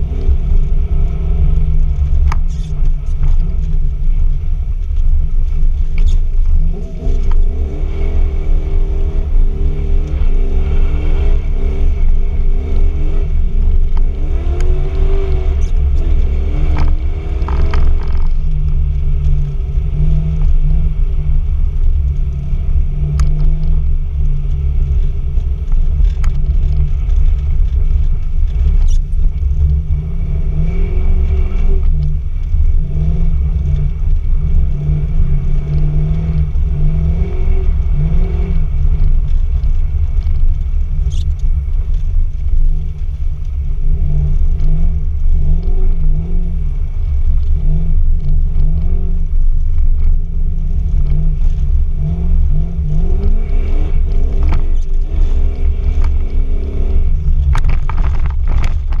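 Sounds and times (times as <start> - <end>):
car engine revving: 0.0 - 59.0
heavy low rumble: 0.0 - 59.0.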